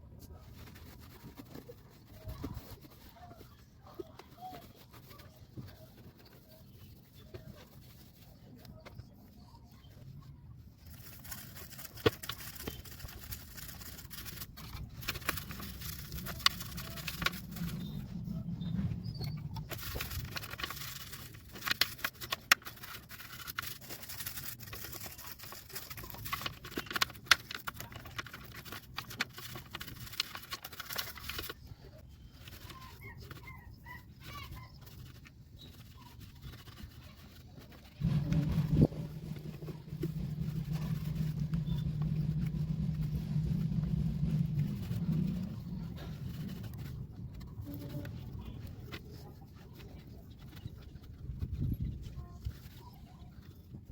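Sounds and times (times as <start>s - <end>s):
brush scrubbing: 0.0s - 53.9s.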